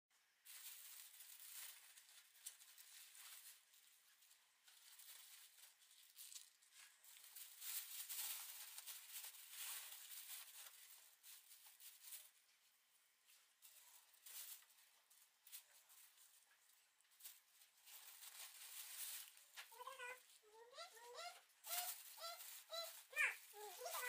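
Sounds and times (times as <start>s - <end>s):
plastic bag rustling: 0.4s - 12.4s, 13.2s - 24.0s.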